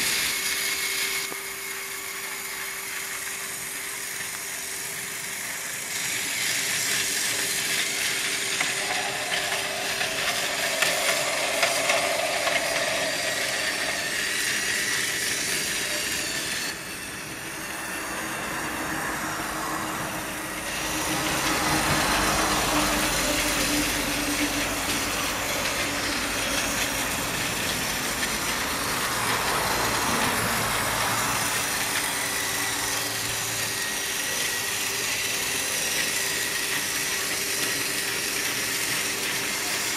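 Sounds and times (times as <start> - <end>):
toy train motor whir: 0.0 - 39.9
toy train wheels on track: 0.0 - 39.9.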